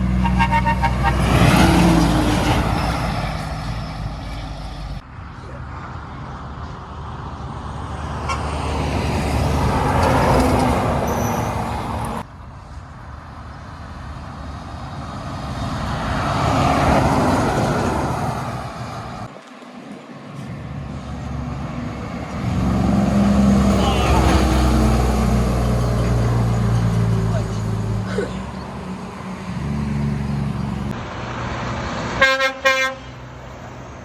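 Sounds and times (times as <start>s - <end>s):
heavy trucks driving past: 0.0s - 34.0s.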